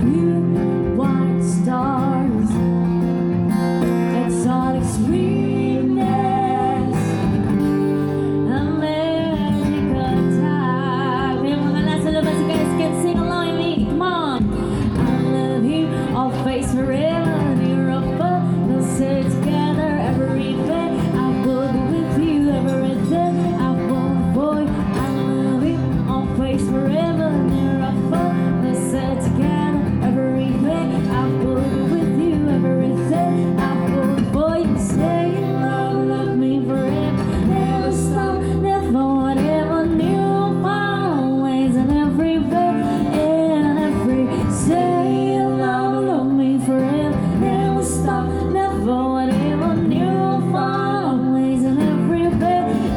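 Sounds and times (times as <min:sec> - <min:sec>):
acoustic guitar: 0:00.0 - 0:52.9
woman singing: 0:00.0 - 0:52.9.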